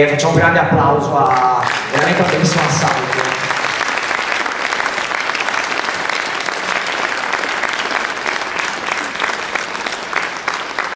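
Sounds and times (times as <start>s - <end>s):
audience applauding: 1.2s - 10.9s.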